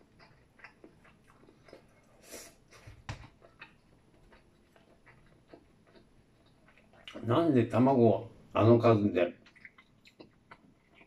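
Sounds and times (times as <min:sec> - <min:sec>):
person chewing: 0:00.0 - 0:07.3, 0:09.4 - 0:11.0.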